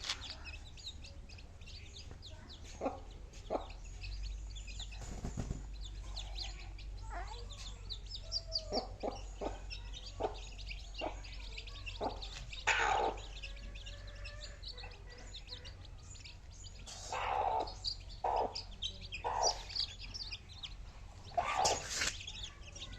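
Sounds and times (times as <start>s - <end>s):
chickens clucking: 0.0s - 22.9s
chicks peeping: 0.0s - 22.9s.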